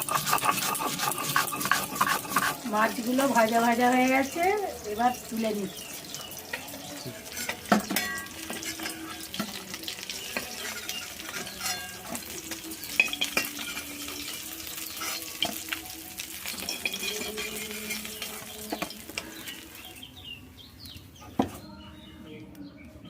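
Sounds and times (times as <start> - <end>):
spatula scraping a pan: 0.0 - 4.5, 5.7 - 20.0
fish sizzling in hot oil: 0.0 - 20.2.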